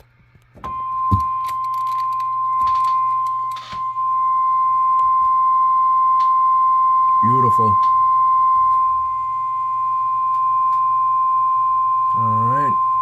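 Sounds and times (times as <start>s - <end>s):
low hum: 0.0s - 13.0s
steady audio test tone: 0.0s - 13.0s.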